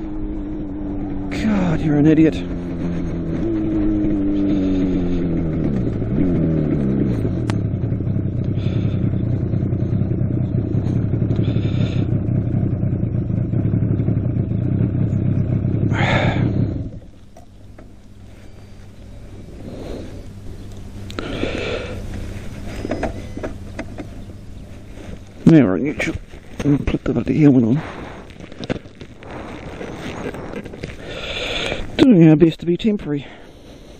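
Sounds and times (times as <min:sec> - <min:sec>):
motorcycle engine slowing and idling: 0:00.0 - 0:33.9.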